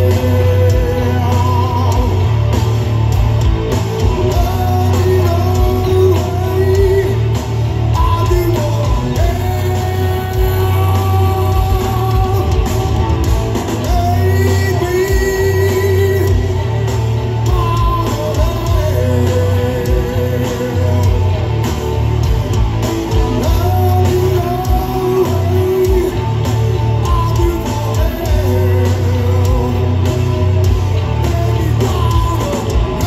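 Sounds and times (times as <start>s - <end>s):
gliding lead guitar melody: 0.0s - 33.0s
heavy rock band playing live: 0.0s - 33.0s.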